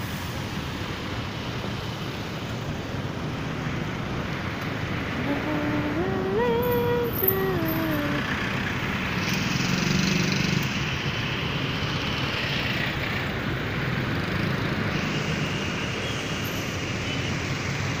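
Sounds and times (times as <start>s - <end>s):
traffic driving past: 0.0s - 18.0s.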